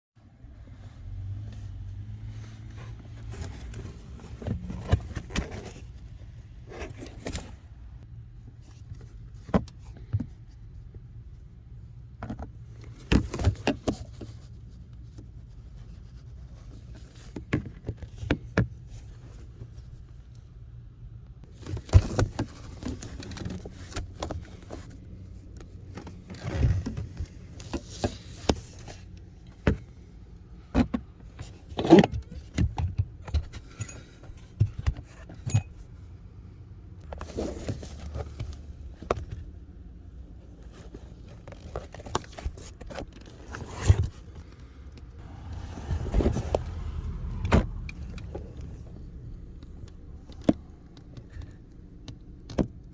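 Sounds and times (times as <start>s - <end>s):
rustling and scraping: 0.7s - 20.6s, 21.4s - 52.9s.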